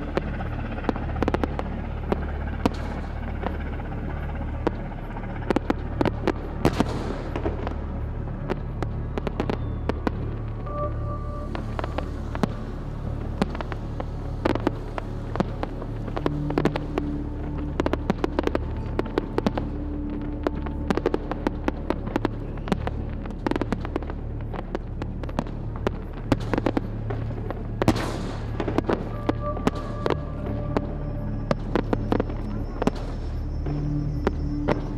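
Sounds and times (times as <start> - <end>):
background music with held tones: 0.0 - 34.9.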